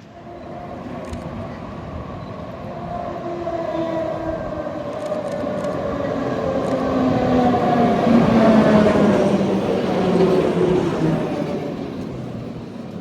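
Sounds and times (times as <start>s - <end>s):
tram motor whine: 0.0s - 13.0s
tram rumbling on rails: 0.0s - 13.0s.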